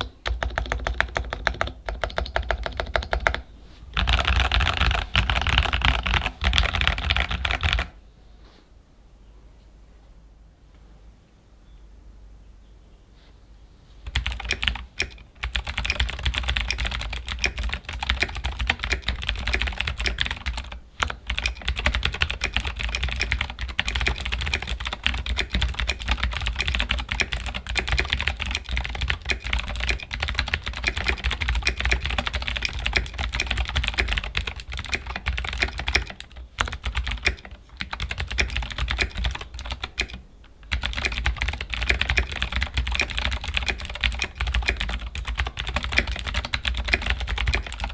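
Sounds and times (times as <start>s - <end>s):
mechanical keyboard typing: 0.0s - 8.0s, 14.1s - 47.9s.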